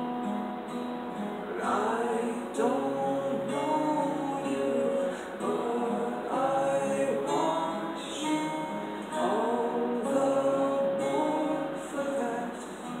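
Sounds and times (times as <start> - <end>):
acoustic guitars strumming: 0.0 - 13.0
man singing slow song: 1.5 - 13.0.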